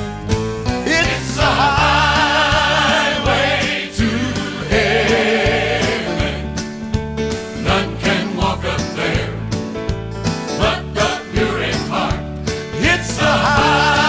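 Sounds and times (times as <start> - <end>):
drums: 0.0 - 14.0
piano: 0.0 - 14.0
gospel choir singing: 0.8 - 9.7, 10.4 - 14.0.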